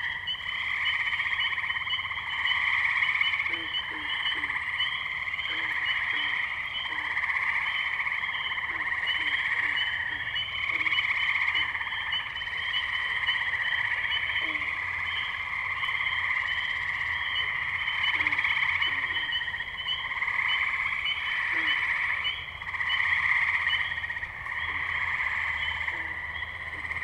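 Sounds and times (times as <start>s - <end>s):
frogs high peeps: 0.0s - 27.0s
frogs low calls: 0.0s - 27.0s
frogs pulsing trill: 0.0s - 27.0s.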